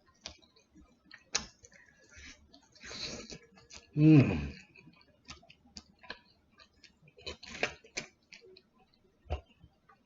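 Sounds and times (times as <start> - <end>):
chewing with wet mouth clicks: 0.0 - 10.0.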